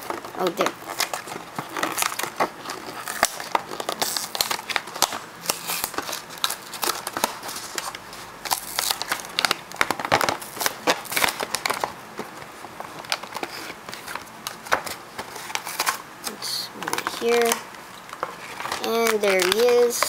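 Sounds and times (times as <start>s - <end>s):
plastic packaging crinkling and tearing: 0.0s - 20.0s.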